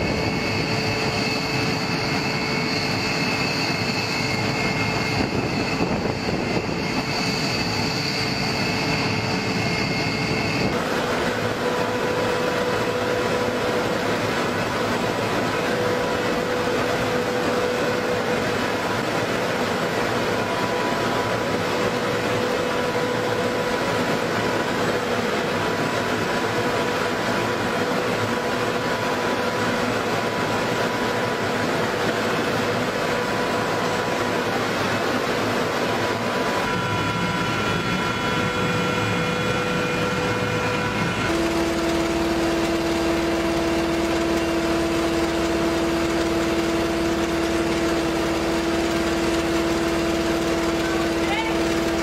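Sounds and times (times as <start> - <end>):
held whining tones: 0.0 - 52.0
machinery droning: 0.0 - 52.0
strong steady hum: 0.0 - 52.0.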